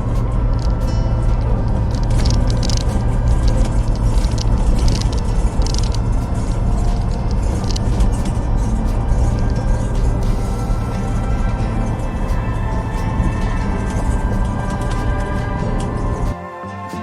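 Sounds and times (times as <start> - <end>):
vehicle driving rumble: 0.0 - 16.4
background music with beat: 0.0 - 17.0.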